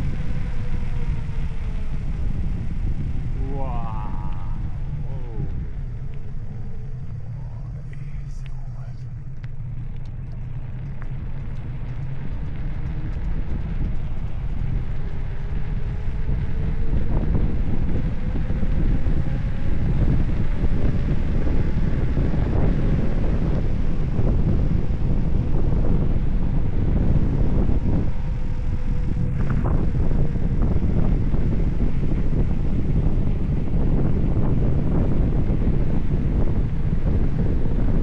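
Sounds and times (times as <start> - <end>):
bicycle tyre and road rumble: 0.0 - 38.0
faint hum rising in pitch: 0.0 - 38.0
wind rushing over microphone: 0.0 - 38.0.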